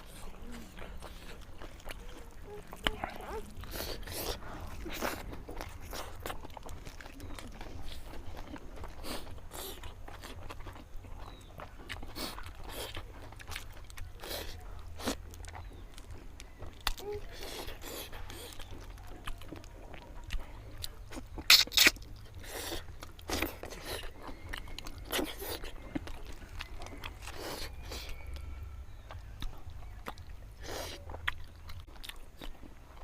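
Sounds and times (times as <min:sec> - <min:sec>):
low steady hum: 0:00.0 - 0:33.0
wet chewing and mouth clicks: 0:00.0 - 0:33.0.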